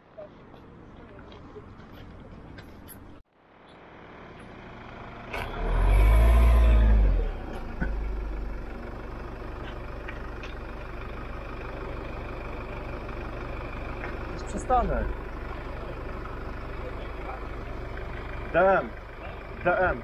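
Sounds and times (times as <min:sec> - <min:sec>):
car engine starting and idling: 0:03.4 - 0:20.0.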